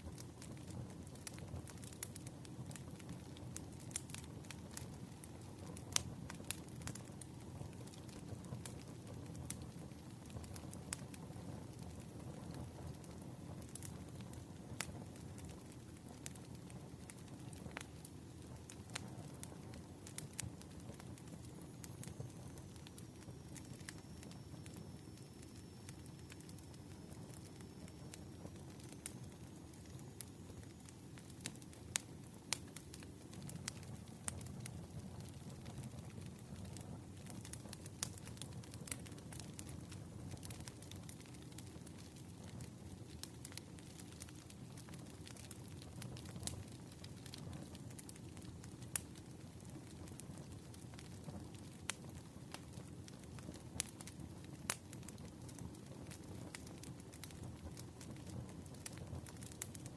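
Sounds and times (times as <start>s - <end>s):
firewood crackling and popping: 0.0s - 59.9s
low fire rumble: 0.0s - 59.9s.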